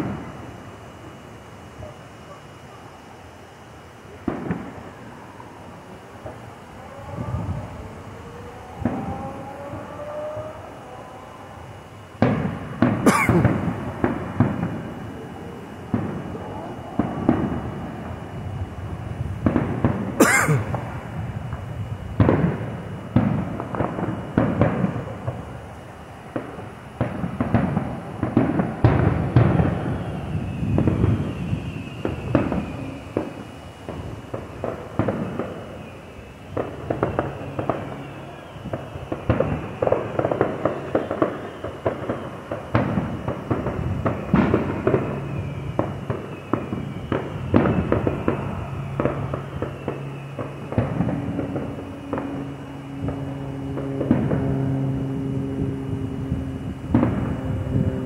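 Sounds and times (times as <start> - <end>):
fireworks bursting: 0.0 - 10.8, 11.5 - 58.0.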